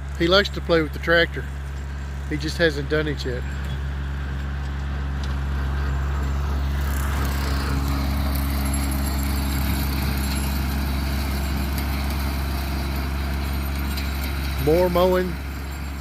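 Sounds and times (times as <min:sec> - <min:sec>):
tractor engine mowing: 0:00.0 - 0:16.0.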